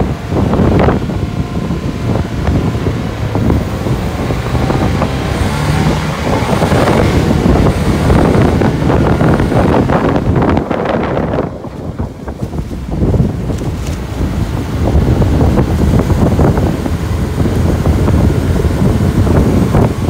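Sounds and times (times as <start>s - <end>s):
boat engine running: 0.0s - 20.0s
wind buffeting microphone: 0.0s - 20.0s
water splashing against hull: 0.3s - 20.0s.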